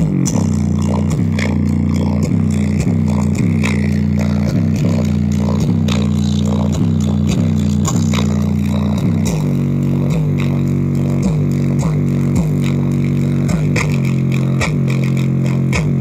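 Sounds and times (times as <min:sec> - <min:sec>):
sliding deep bass notes: 0:00.0 - 0:16.0.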